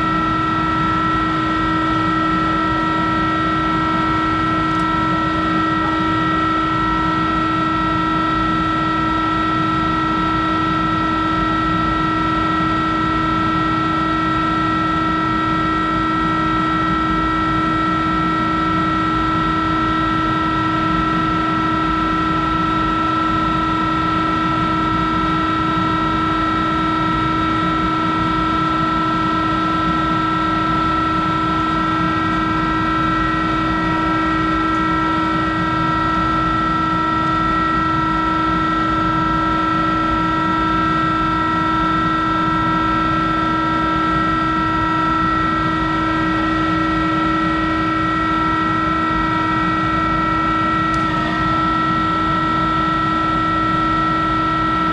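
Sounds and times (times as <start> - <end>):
lathe running with high whine: 0.0 - 54.9.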